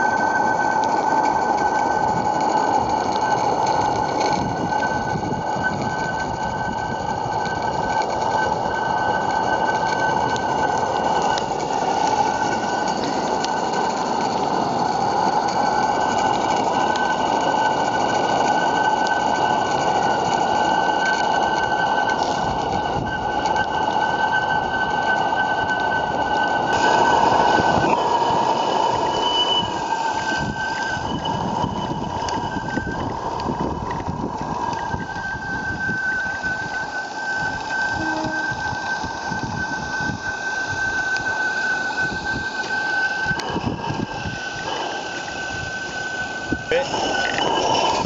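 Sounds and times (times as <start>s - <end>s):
steady high tones: 0.0s - 48.0s
steam engine rattling hiss: 1.3s - 25.0s, 26.0s - 48.0s.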